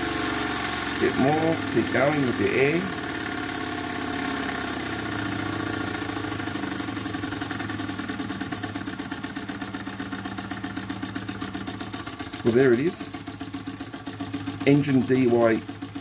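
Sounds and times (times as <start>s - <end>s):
model steam engine exhaust beating: 0.0s - 16.0s.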